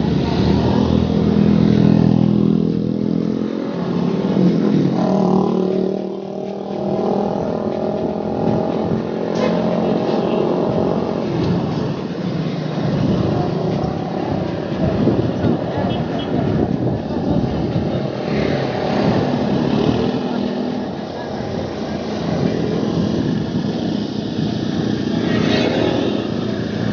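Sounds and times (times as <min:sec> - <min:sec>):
motorcycles passing: 0:00.0 - 0:26.9
road traffic passing: 0:00.0 - 0:26.9.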